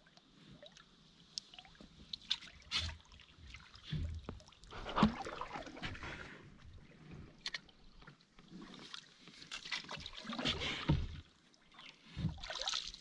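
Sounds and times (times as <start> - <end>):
paddle splashing in water: 2.1 - 13.0.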